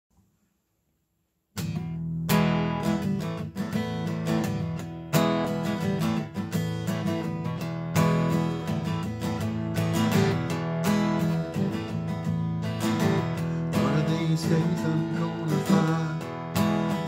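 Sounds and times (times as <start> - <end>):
acoustic guitar strumming: 1.6 - 17.0.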